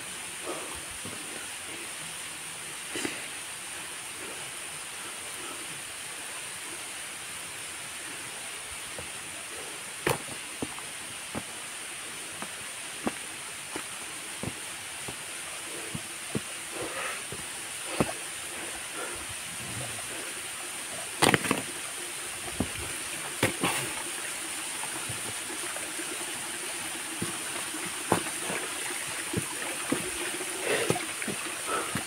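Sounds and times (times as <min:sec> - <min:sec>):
stream water flowing: 0:00.0 - 0:32.0.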